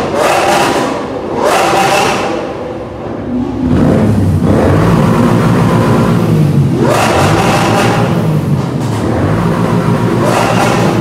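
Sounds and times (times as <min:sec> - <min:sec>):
car engine revving: 0:00.0 - 0:11.0
motorcycle engine revving: 0:00.0 - 0:11.0.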